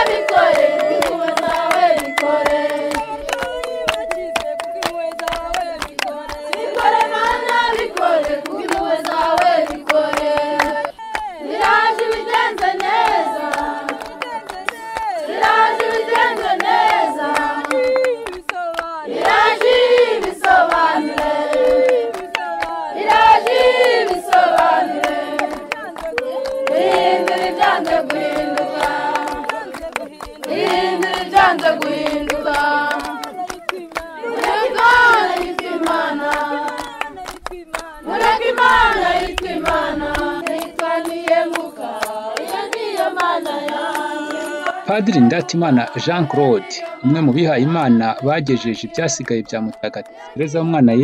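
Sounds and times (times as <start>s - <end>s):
congregation singing: 0.0s - 51.0s
hands clapping in time: 0.0s - 51.0s.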